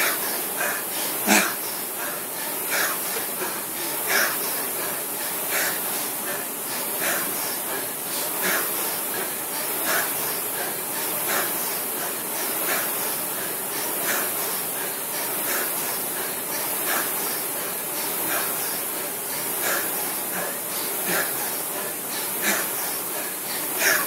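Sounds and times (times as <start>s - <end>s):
rowing machine flywheel whirring: 0.0s - 24.0s.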